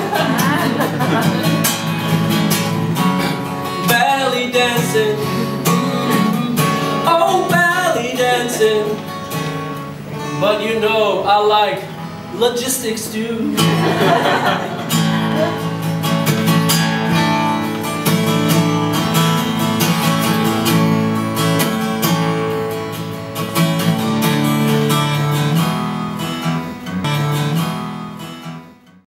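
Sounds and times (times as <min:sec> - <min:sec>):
guitar strumming chords: 0:00.0 - 0:29.0.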